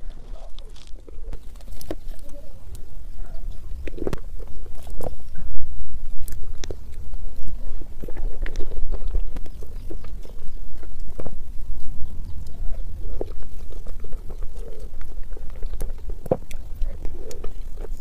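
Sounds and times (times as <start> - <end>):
person chewing: 0.0 - 18.0.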